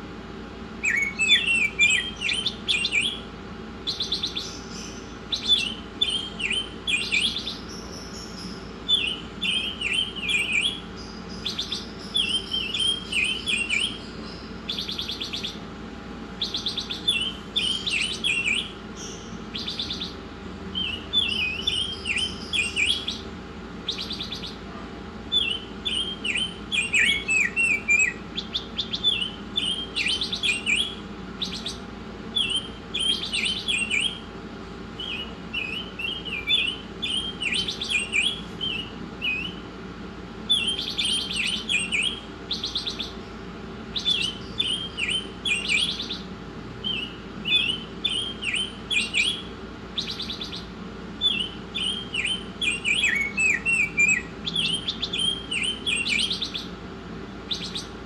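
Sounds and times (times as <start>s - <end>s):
faint steady hum: 0.0s - 58.0s
songbird chirping with trills: 0.0s - 58.0s.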